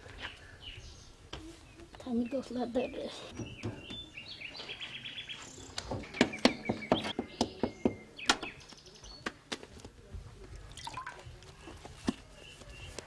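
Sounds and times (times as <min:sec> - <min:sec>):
birds chirping: 0:00.0 - 0:09.4, 0:11.6 - 0:13.0.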